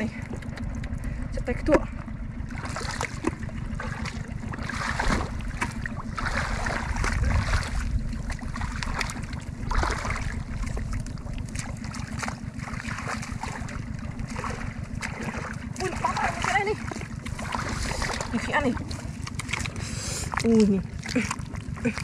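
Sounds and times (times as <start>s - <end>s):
steady low rumble: 0.0s - 22.0s
water sloshing and splashing: 0.0s - 22.0s.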